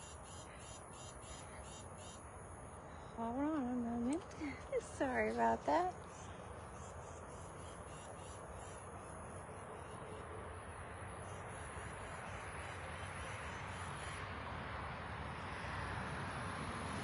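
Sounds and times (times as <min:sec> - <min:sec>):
insects trilling: 0:00.0 - 0:14.2
steady outdoor hiss: 0:00.0 - 0:17.0.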